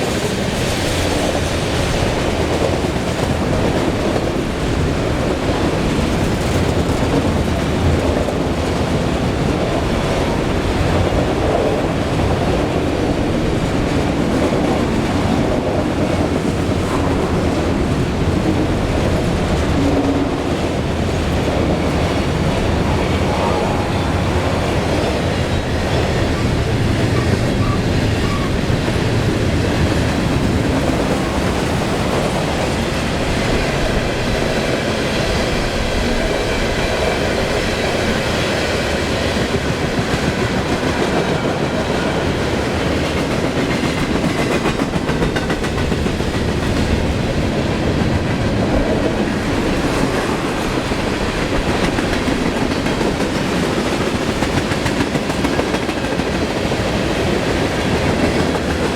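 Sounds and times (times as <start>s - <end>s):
train rumbling and clattering: 0.0s - 58.9s.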